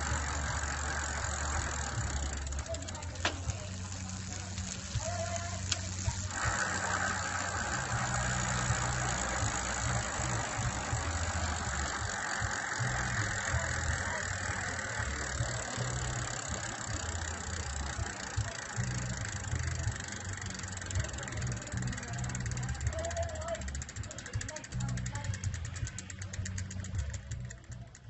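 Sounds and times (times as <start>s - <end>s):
bicycle freewheel ratcheting: 0.0s - 28.0s.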